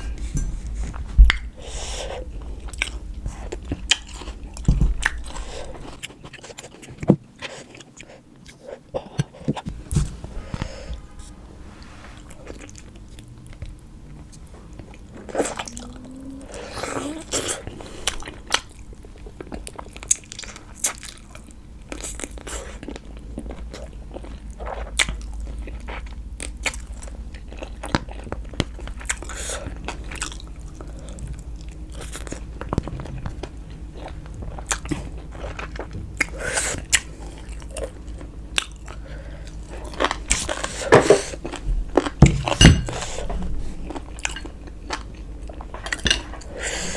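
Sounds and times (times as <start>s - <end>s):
person chewing food: 0.0s - 11.1s, 12.2s - 46.9s.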